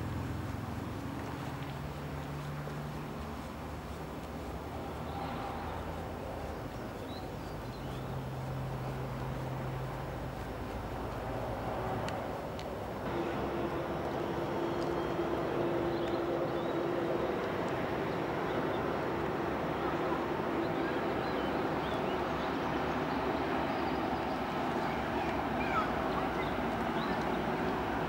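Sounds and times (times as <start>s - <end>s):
locomotive hum and rumble: 0.0s - 28.0s.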